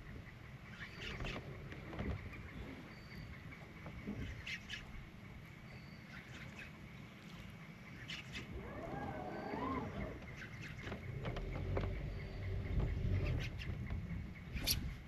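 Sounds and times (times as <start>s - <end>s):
choppy water: 0.0s - 15.0s.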